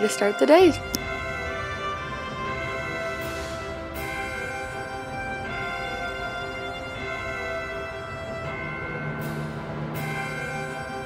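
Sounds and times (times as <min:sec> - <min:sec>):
orchestral background music: 0:00.0 - 0:11.0.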